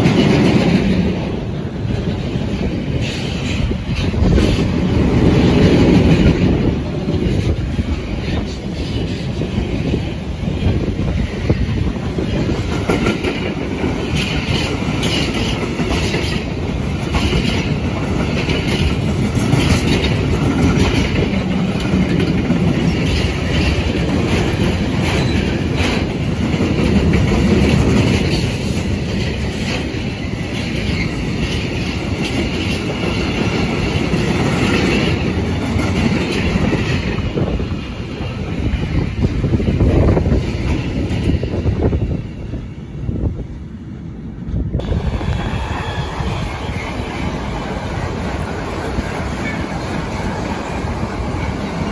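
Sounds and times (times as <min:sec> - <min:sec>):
freight train wheels clattering: 0:00.0 - 0:43.9, 0:44.7 - 0:51.9.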